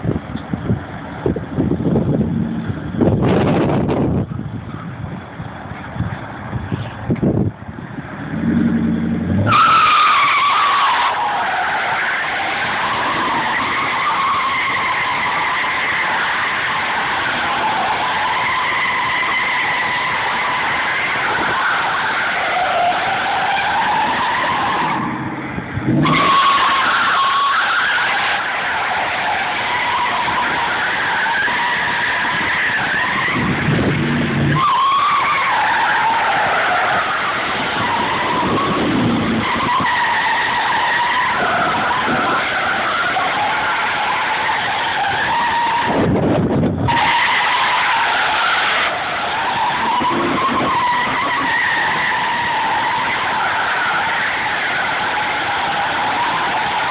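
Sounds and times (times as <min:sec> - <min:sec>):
tyres squealing: 0:08.2 - 0:46.1, 0:46.8 - 0:56.9.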